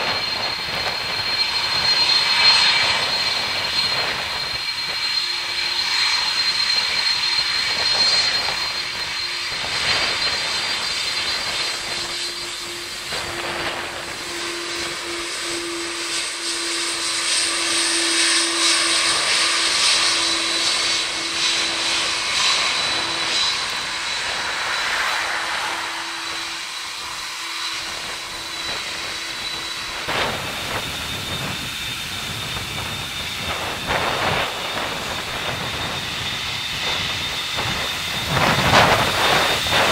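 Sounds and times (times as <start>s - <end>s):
jet engines taxiing: 0.0s - 39.9s.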